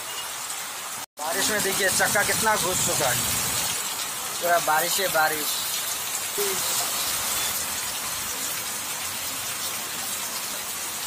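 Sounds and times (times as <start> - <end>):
heavy rain on standing water: 0.0 - 11.0.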